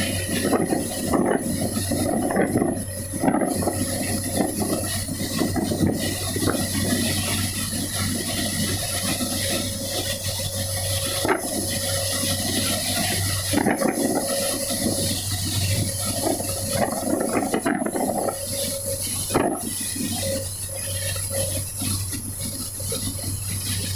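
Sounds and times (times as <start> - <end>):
heavy rain: 0.0 - 23.9
low hum: 0.0 - 23.9
strong wind: 0.0 - 23.9.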